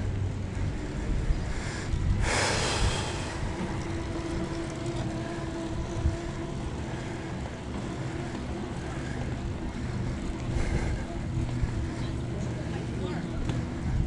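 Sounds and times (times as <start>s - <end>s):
steady low hum: 0.0s - 14.0s
wind rumbling over microphone: 0.0s - 14.0s.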